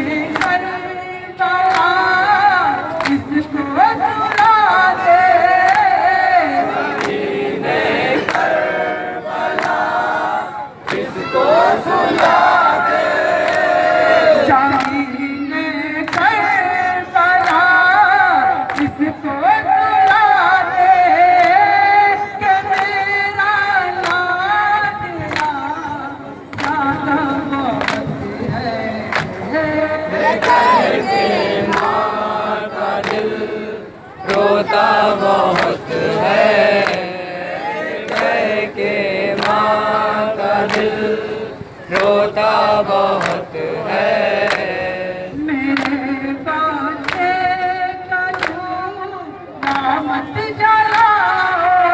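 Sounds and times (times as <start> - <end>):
man singing a lament over loudspeakers: 0.0 - 51.9.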